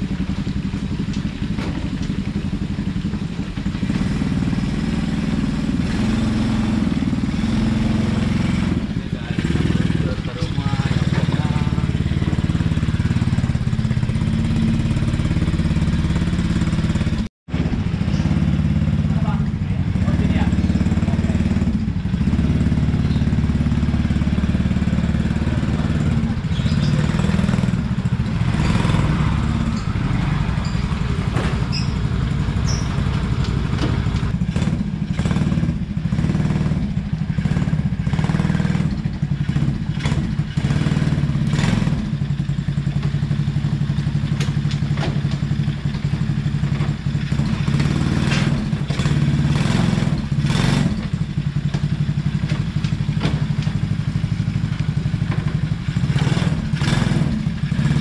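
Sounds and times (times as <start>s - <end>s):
small engine idling: 0.0s - 58.0s.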